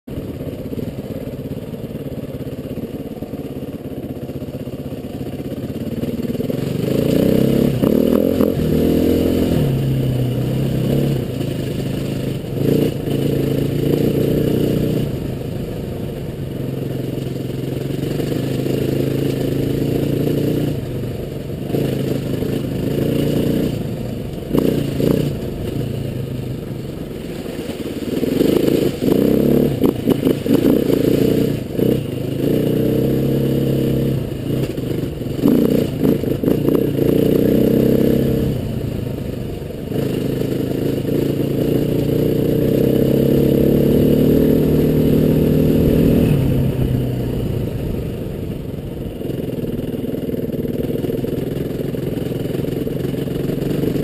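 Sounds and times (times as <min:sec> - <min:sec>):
motorcycle engine revving: 0:00.1 - 0:54.0.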